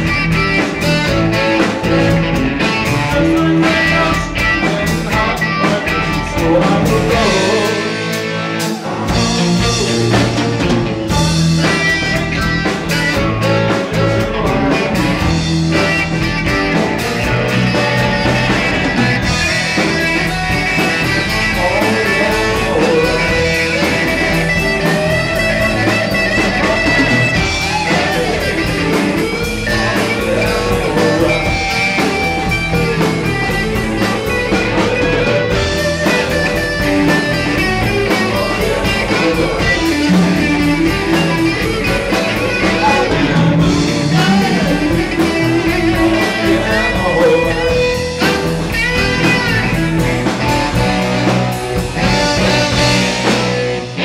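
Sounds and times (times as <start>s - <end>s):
electric guitar: 0.0s - 54.0s
live blues band: 0.0s - 54.0s.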